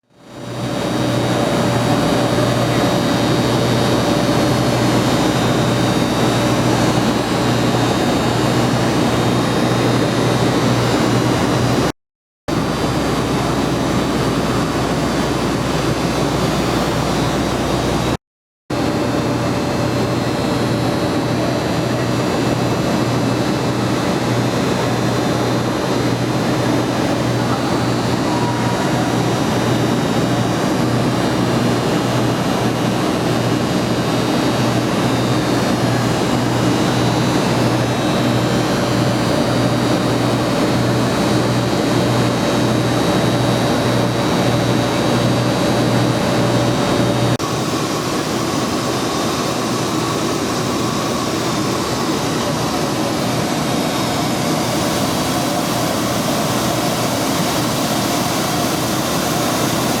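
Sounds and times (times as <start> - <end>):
jet airliner noise: 0.0 - 11.9, 12.5 - 60.0.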